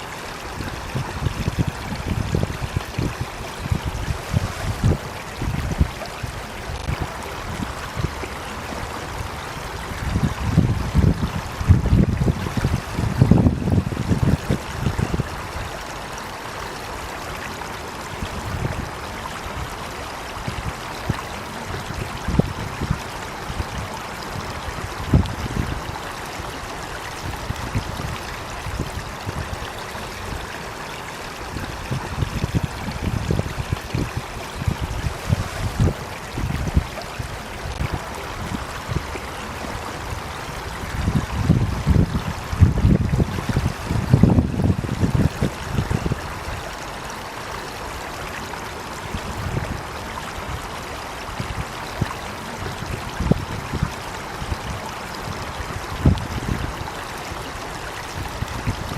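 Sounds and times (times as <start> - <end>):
water rushing: 0.0 - 58.9.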